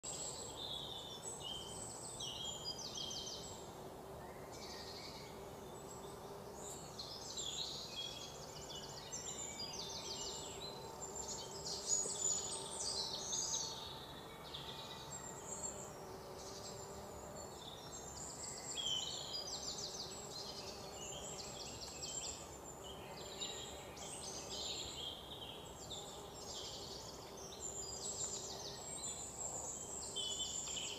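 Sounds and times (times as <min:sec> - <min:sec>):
small birds chirping and trilling: 0:00.0 - 0:30.9.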